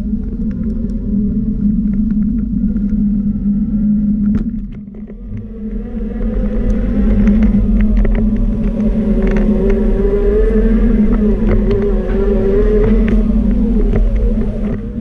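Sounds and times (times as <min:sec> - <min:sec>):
motor whine: 0:00.0 - 0:15.0
ride-on vehicle humming: 0:00.0 - 0:15.0.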